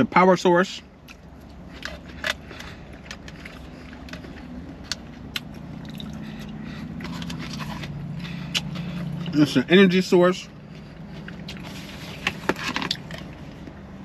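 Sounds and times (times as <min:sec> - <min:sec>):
vehicle engine hum: 0:00.0 - 0:14.0
chewing: 0:01.0 - 0:09.4, 0:10.5 - 0:13.8.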